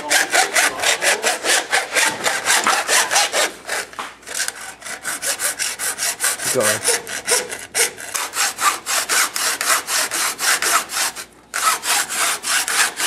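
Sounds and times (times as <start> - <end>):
saw cutting hard plastic: 0.0 - 13.0.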